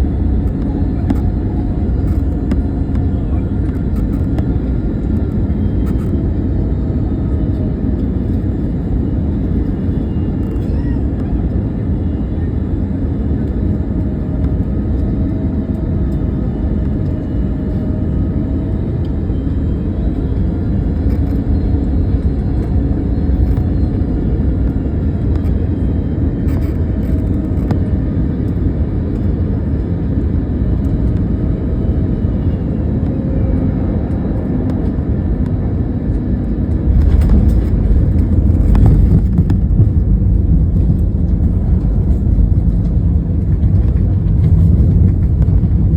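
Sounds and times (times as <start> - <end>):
airliner engine rumble: 0.0 - 45.9
faint whining tones: 0.0 - 45.9.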